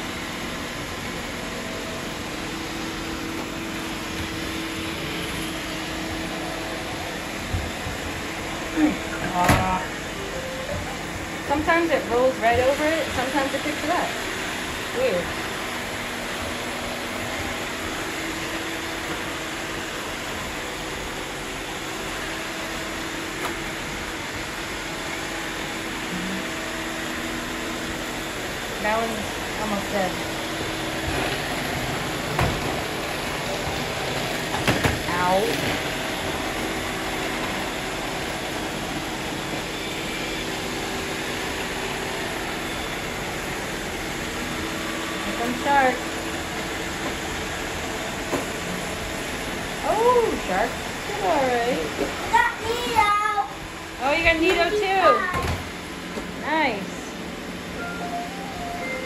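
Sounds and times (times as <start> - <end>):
robot vacuum cleaners whirring: 0.1 - 59.0.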